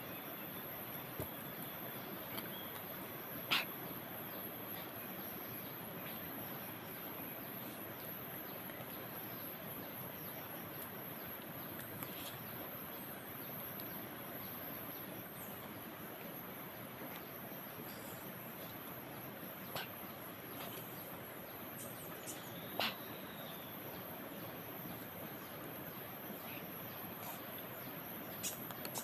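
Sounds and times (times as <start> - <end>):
outdoor background hiss: 0.0 - 29.0.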